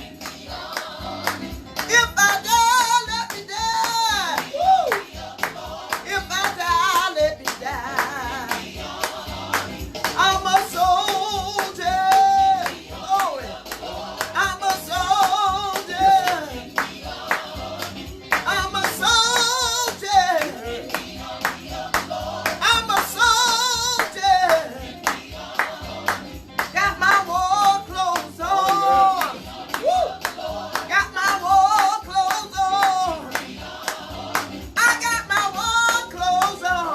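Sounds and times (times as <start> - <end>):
sharp clapping beat: 0.0 - 36.9
singing with heavy vibrato: 0.0 - 36.9.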